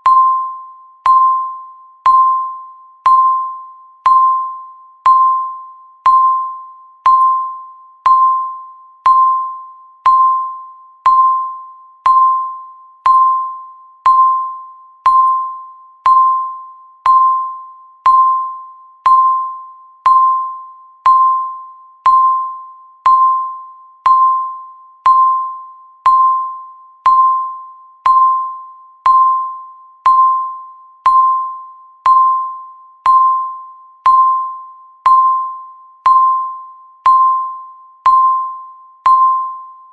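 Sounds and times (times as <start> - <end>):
bell-like timer ping: 0.0 - 39.9.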